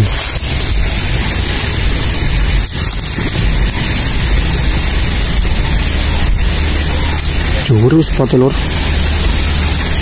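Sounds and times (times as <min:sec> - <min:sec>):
low rumble: 0:00.0 - 0:10.0
outdoor background hiss: 0:00.0 - 0:10.0.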